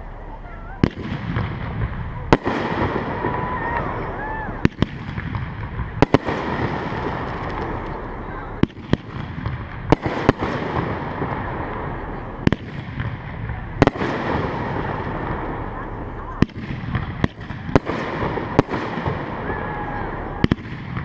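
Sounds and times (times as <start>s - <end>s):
fireworks bangs: 0.0s - 21.0s
steady background noise: 0.0s - 21.0s.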